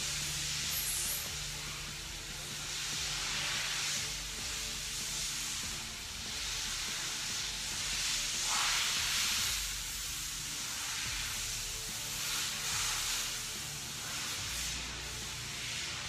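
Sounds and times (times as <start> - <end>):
rushing air hiss: 0.0 - 16.0.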